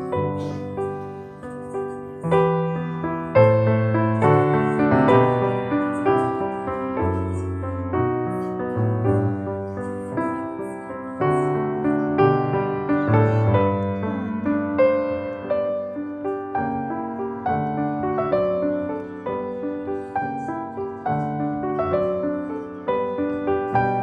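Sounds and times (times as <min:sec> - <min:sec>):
gentle piano piece: 0:00.0 - 0:24.0.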